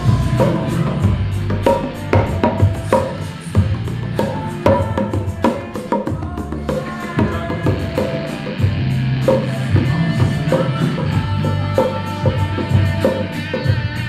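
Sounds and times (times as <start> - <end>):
music with steady drum beat: 0.0 - 14.0.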